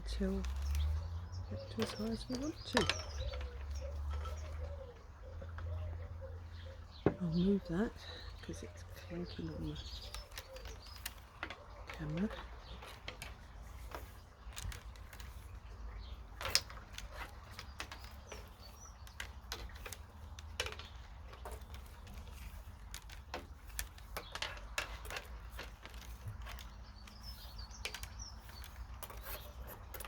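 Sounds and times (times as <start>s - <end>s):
willow rods creaking and clicking: 0.0s - 30.0s.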